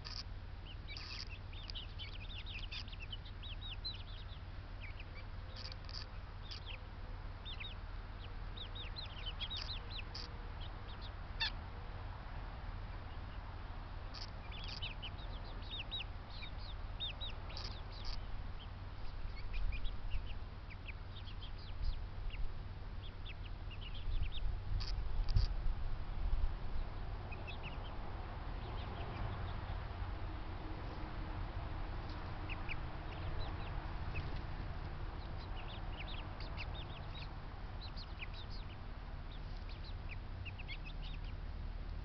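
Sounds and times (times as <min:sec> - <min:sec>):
birds chirping and peeping: 0:00.0 - 0:42.0
steady low rumble: 0:00.0 - 0:42.0.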